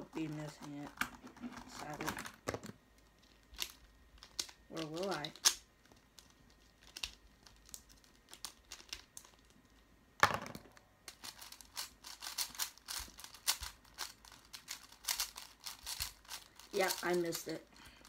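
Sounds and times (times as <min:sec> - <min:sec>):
puzzle cube clicking and rattling: 0:00.1 - 0:09.6, 0:11.1 - 0:18.0.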